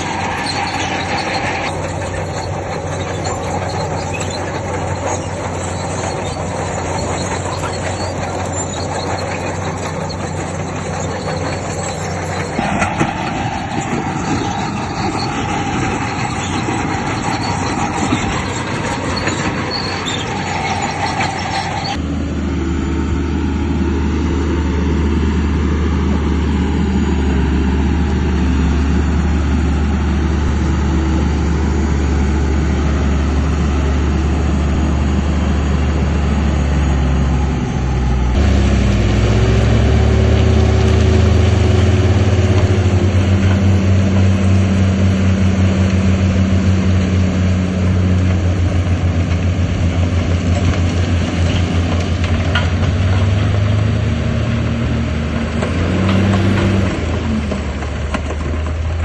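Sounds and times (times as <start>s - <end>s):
crawler tracks squealing and clanking: 0.0s - 22.0s, 22.7s - 59.0s
diesel engine drone: 0.0s - 59.0s.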